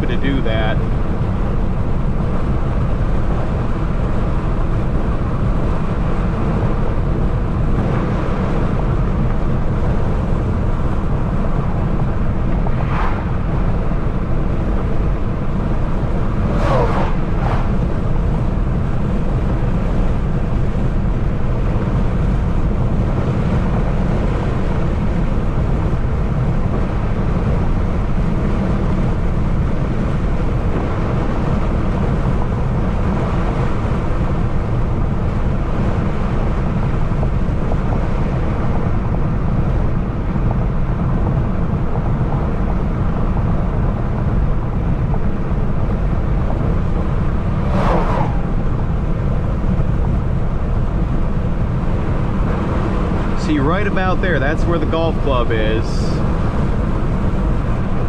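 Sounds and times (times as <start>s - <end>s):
car engine droning: 0.0s - 58.0s
road and wind noise: 0.0s - 58.0s.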